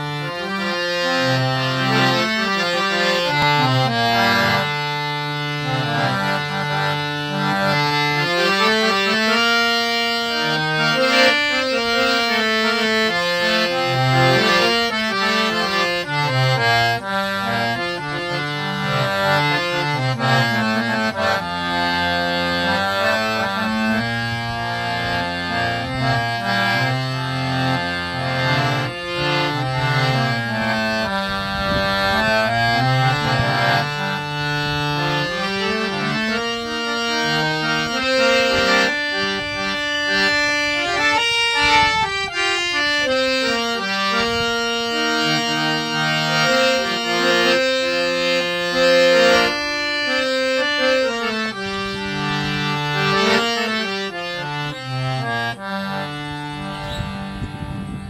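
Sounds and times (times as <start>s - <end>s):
harmonium melody: 0.0s - 58.0s.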